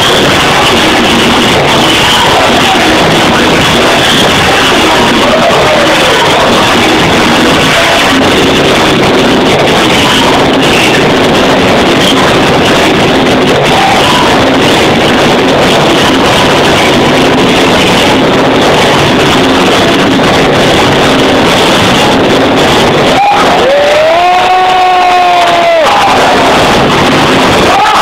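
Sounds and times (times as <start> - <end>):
loud breakdance music: 0.0 - 28.0.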